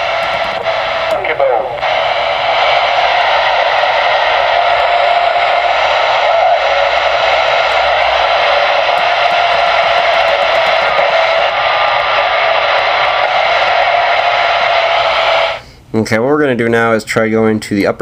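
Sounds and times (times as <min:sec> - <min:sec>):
radio static hiss: 0:00.0 - 0:15.7.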